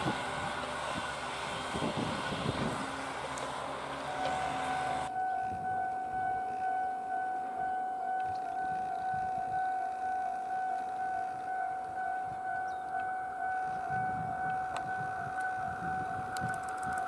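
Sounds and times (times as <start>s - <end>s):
level crossing warning bell: 0.0s - 17.0s
train rumbling on track: 0.0s - 17.0s.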